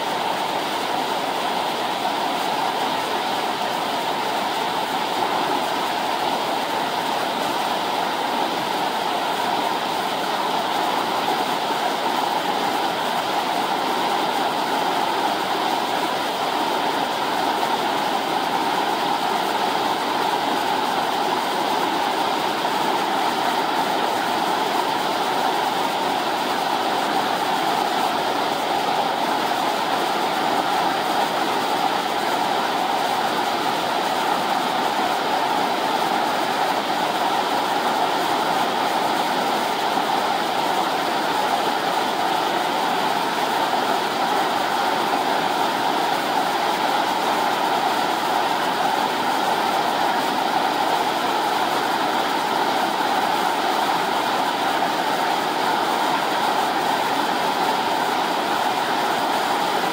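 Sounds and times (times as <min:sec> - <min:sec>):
whitewater rushing: 0:00.0 - 0:59.9.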